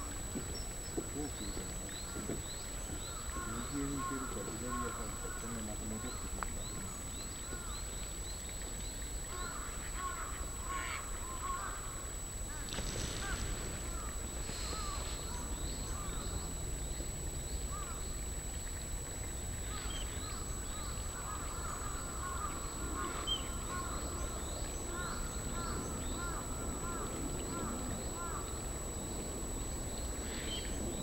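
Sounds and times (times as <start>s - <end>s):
harsh noisy bird calls: 0.0s - 8.2s, 9.2s - 16.8s, 19.2s - 29.0s
birds chirping: 0.0s - 31.0s.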